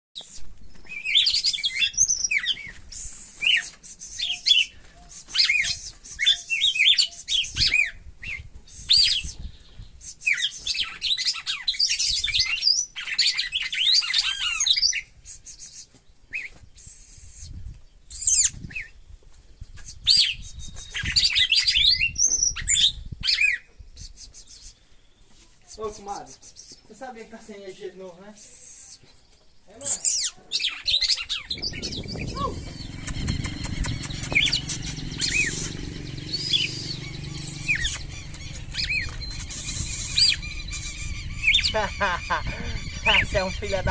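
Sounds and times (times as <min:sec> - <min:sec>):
bird singing whistled notes: 0:00.2 - 0:26.9, 0:28.5 - 0:43.9.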